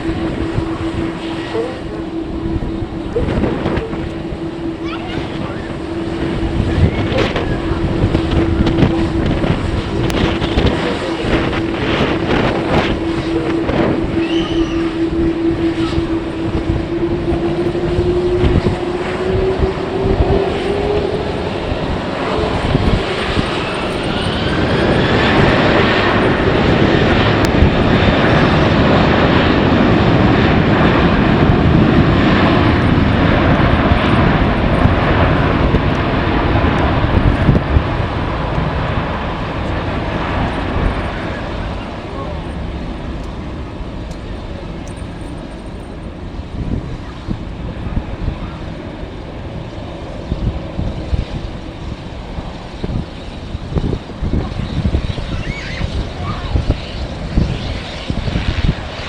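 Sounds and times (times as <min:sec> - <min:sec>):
jet engines whining and roaring: 0:00.0 - 0:59.0
wind buffeting microphone: 0:00.0 - 0:59.0.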